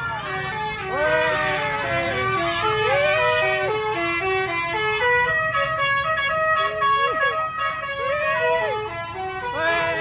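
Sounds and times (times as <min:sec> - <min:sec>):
multi-tone musical air horn: 0:00.1 - 0:10.0.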